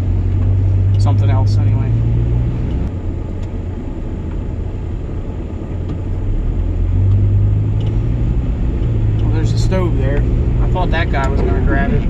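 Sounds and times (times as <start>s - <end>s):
road rumble: 0.0s - 12.0s
vehicle engine drone: 0.0s - 12.0s.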